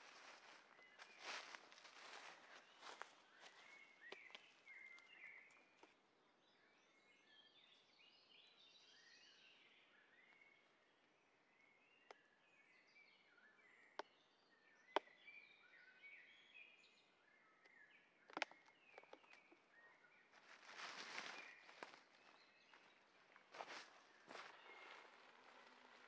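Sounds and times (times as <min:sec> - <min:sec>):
forest birdsong chirps: 0:00.0 - 0:26.0.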